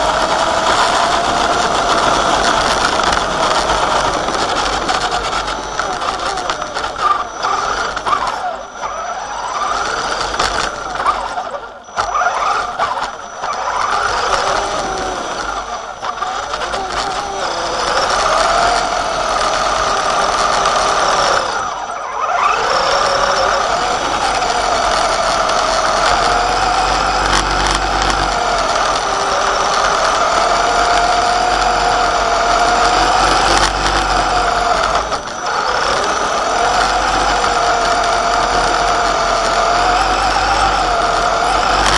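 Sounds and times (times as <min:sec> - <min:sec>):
rc truck electric motor whining: 0:00.0 - 0:41.9.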